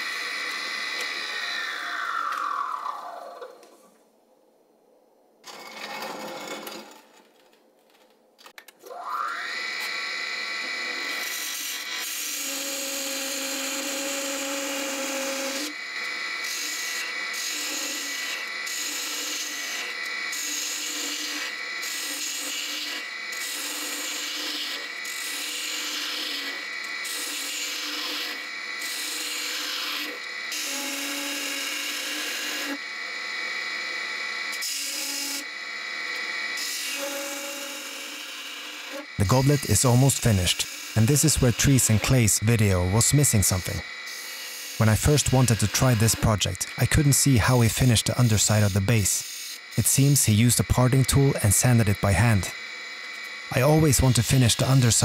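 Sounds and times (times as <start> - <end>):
tool cutting spinning wood: 0.0 - 3.7, 5.4 - 7.2, 8.8 - 55.0
wood lathe whine: 0.0 - 3.8, 5.4 - 7.2, 8.8 - 55.0.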